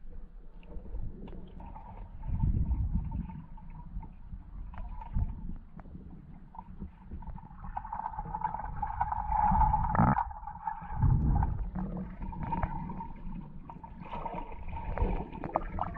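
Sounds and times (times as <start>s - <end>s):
muffled underwater water movement: 0.0s - 15.9s.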